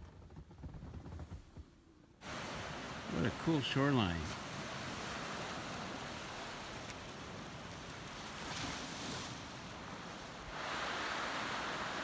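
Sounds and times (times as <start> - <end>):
waves washing over rocks: 2.2 - 12.0.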